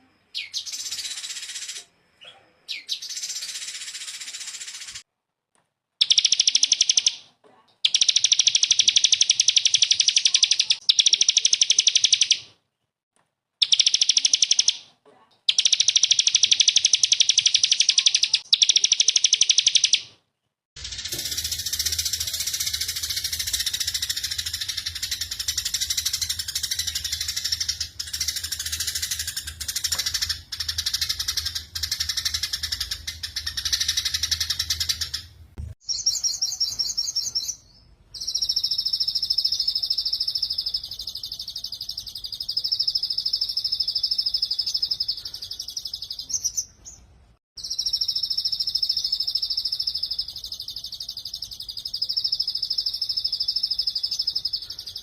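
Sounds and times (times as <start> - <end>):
bird chattering song: 6.0 - 7.2, 7.8 - 12.5, 13.6 - 14.8, 15.5 - 20.1, 20.8 - 47.0, 47.6 - 55.0.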